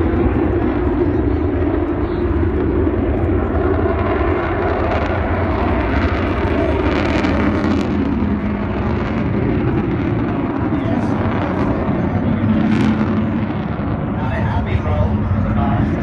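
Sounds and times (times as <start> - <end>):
jet bomber engines roaring: 0.0 - 16.0.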